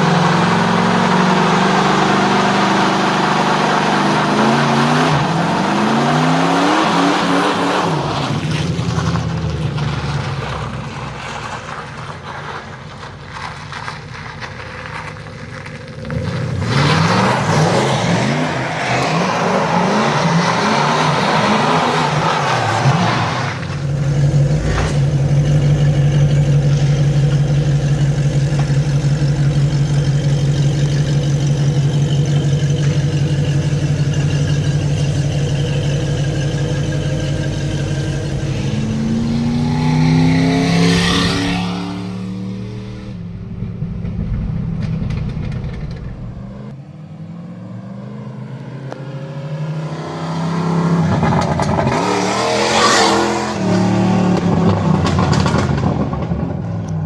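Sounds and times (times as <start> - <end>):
engine revving: 0.0 - 12.3, 15.5 - 57.0.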